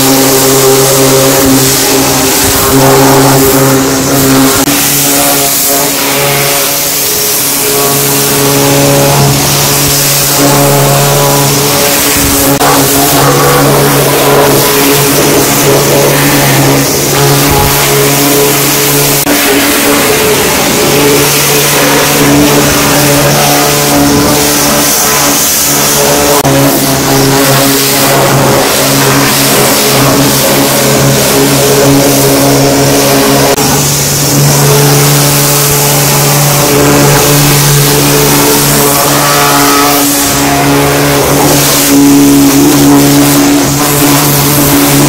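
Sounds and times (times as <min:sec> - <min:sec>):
machine drone: 0:00.0 - 0:45.0
pressure washer spray hissing: 0:00.0 - 0:45.0.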